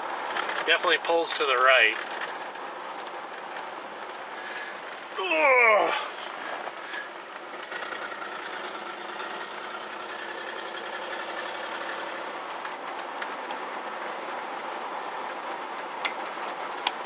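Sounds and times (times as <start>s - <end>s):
car engine running: 0.0s - 17.0s
road and tyre noise: 0.0s - 17.0s.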